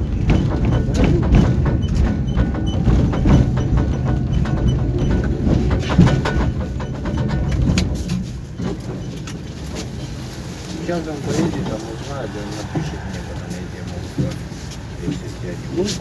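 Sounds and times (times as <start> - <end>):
tram rumble: 0.0 - 16.0
wheels clattering on track: 0.0 - 16.0.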